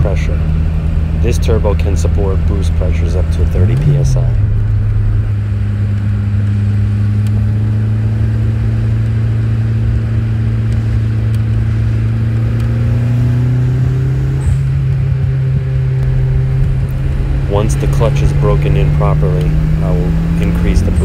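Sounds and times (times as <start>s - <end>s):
car engine while driving: 0.0s - 21.0s.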